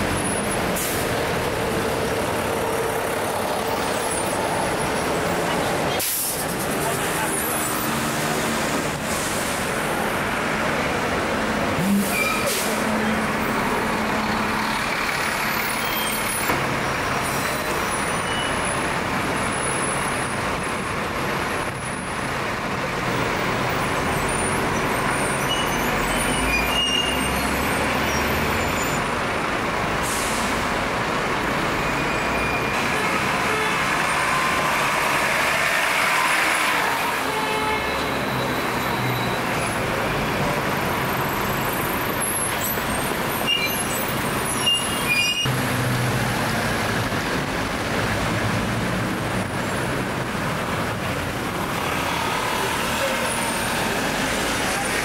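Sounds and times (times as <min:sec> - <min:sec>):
bus engines rumbling: 0:00.0 - 0:55.0.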